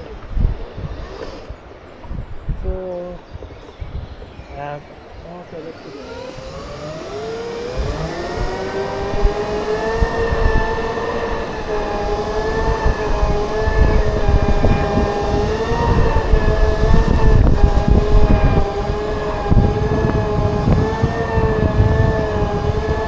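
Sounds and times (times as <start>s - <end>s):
wind rumbling on microphone: 0.0s - 23.0s
electric motors whining: 3.4s - 23.0s.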